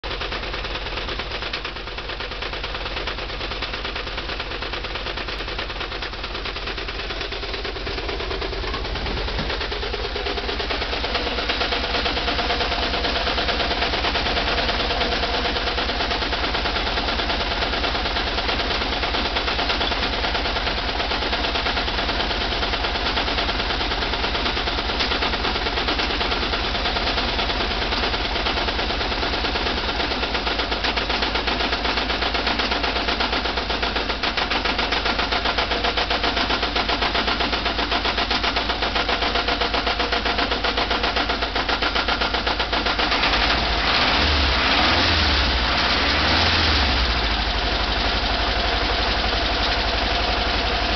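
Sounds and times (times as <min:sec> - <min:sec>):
air-cooled engine knocking: 0:00.0 - 0:50.9.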